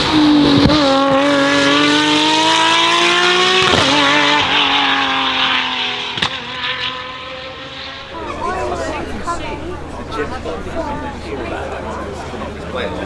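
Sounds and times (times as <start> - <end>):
race car engine accelerating: 0.0 - 12.8.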